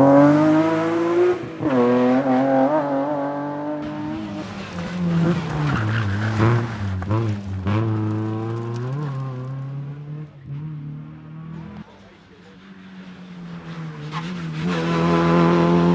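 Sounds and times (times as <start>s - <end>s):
rally car engine revving: 0.0s - 15.9s
tyres skidding: 0.0s - 15.9s.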